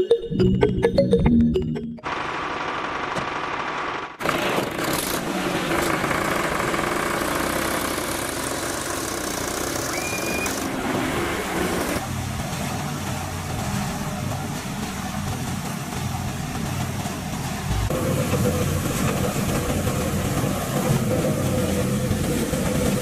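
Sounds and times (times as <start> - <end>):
engine running: 0.6 - 23.0.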